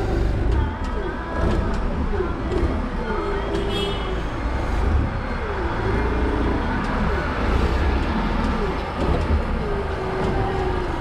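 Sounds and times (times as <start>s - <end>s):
forklift engine rumbling: 0.0s - 11.0s.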